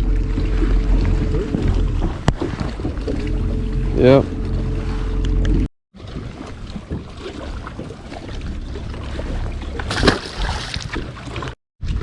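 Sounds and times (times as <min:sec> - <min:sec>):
low rumble: 0:00.0 - 0:12.0
water around a boat: 0:00.0 - 0:12.0
wind: 0:00.0 - 0:12.0.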